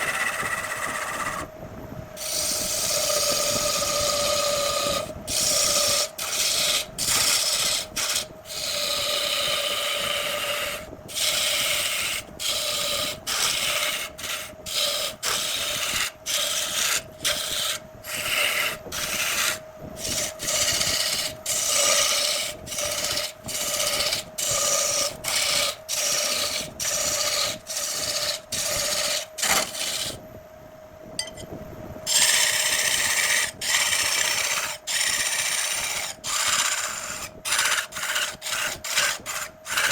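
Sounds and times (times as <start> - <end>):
tool scraping spinning wood: 0.0 - 1.5, 2.2 - 30.2, 32.1 - 39.9
lathe motor hum: 2.2 - 30.2, 32.1 - 39.9.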